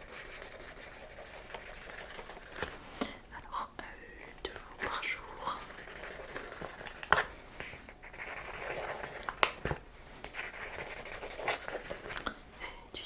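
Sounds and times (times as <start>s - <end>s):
close scratching and rustling: 0.0s - 2.9s, 4.7s - 12.3s.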